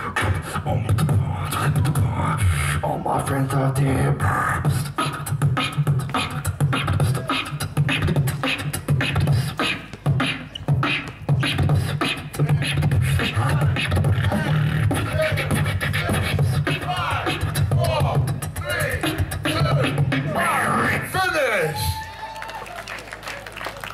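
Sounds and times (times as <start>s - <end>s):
wavering pitched vocal sounds: 0.0s - 21.2s
beatboxing into a microphone: 0.0s - 22.0s.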